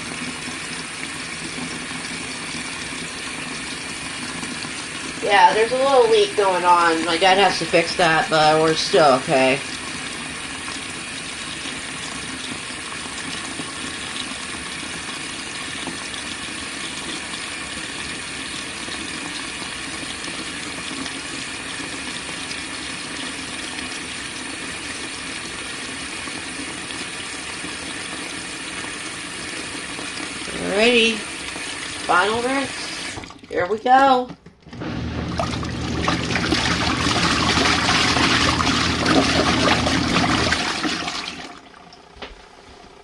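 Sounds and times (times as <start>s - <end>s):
water rushing into washing machine: 0.0s - 43.0s.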